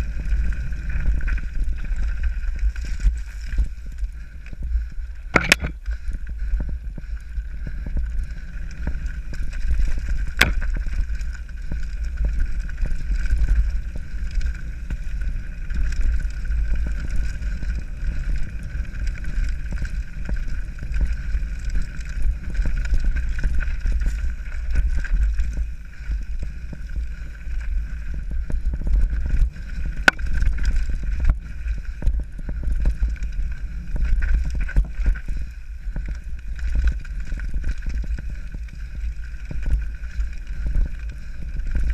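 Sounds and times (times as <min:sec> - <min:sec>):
bike rattling over stones: 0:00.0 - 0:41.9
wind rumble on microphone: 0:00.0 - 0:41.9.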